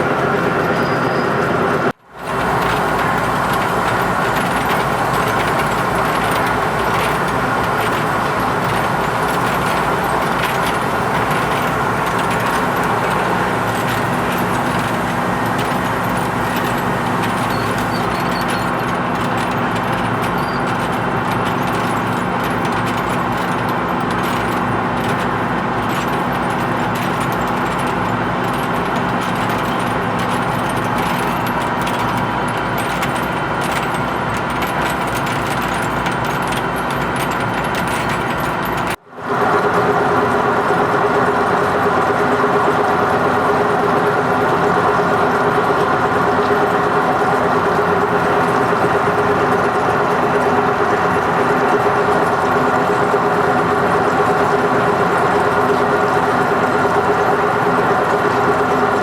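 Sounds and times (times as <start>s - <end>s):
lathe machine hum: 0.0s - 59.0s.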